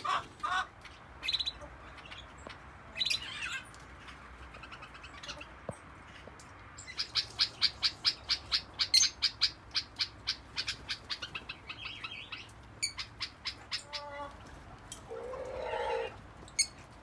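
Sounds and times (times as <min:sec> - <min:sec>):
lovebirds chirping: 0:00.0 - 0:16.8.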